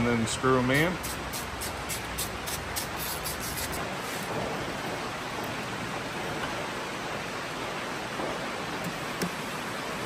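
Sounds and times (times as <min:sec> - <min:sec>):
heavy rain hissing: 0:00.4 - 0:10.0.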